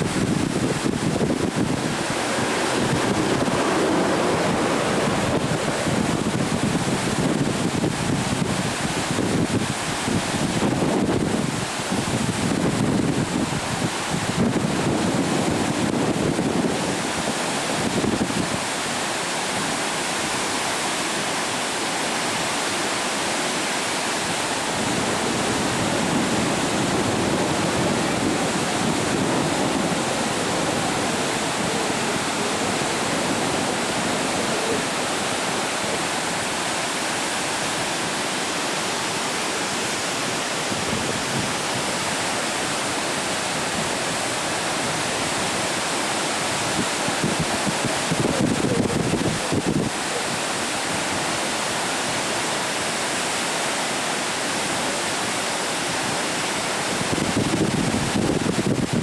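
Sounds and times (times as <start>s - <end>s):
rush of fast water: 0.0s - 59.0s.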